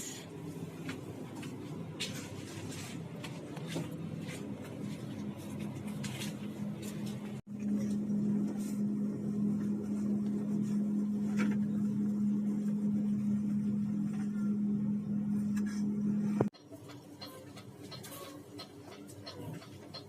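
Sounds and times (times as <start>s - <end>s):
low hum in bus cabin: 0.0s - 20.0s.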